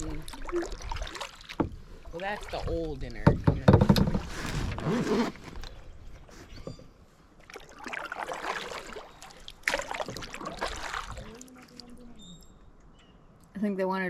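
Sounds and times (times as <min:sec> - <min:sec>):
canoe paddle splashing: 0:00.0 - 0:12.2.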